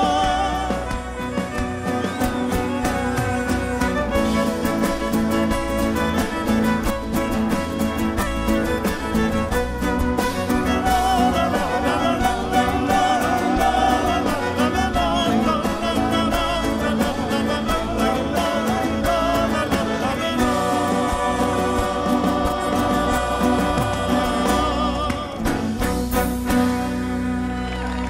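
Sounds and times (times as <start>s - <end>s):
person singing: 0.0s - 26.0s
folk band playing live: 0.0s - 28.0s.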